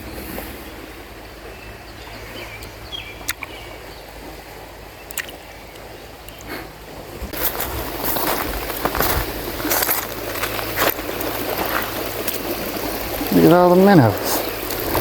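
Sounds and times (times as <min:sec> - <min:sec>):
shallow river water rippling: 0:00.0 - 0:15.0.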